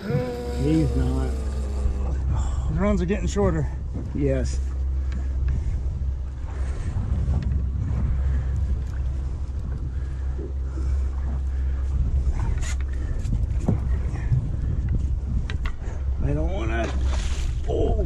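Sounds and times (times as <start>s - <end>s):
boat engine running: 0.0s - 18.0s
water sloshing against hull: 0.0s - 18.0s
wind buffeting microphone: 0.0s - 18.0s.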